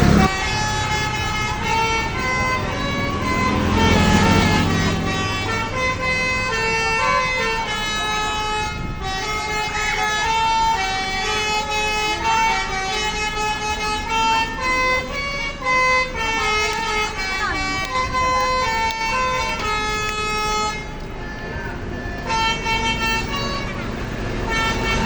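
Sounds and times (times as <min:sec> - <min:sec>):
multi-tone air horn melody: 0:00.0 - 0:25.0.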